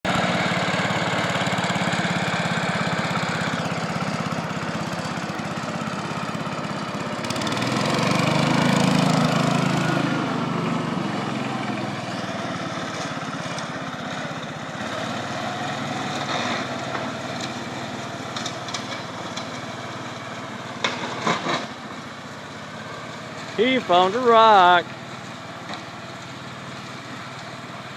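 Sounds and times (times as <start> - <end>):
mower engine running: 0.0 - 27.9.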